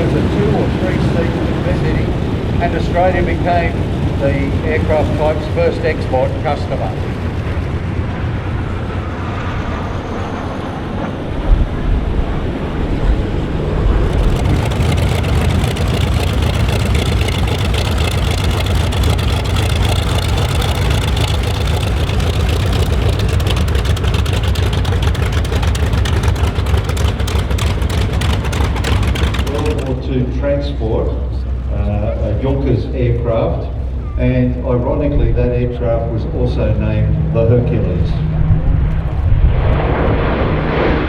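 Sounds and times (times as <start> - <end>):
aircraft engine rumble: 0.0 - 41.0.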